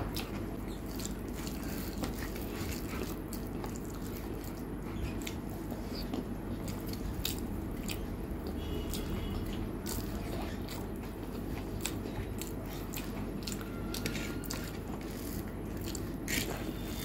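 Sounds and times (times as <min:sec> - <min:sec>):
steady low hum: 0:00.0 - 0:17.0
wet chewing mouth sounds: 0:00.0 - 0:17.0.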